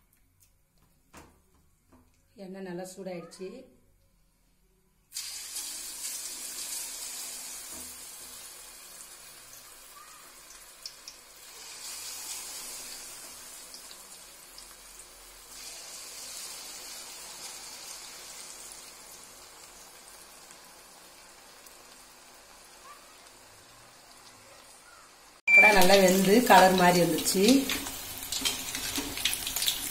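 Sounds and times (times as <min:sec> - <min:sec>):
meat deep-frying in hot oil: 0:05.1 - 0:29.9.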